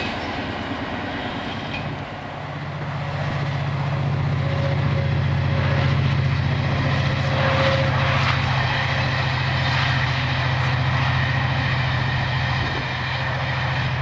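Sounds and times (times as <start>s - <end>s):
diesel locomotive engine throbbing: 0.0s - 14.0s.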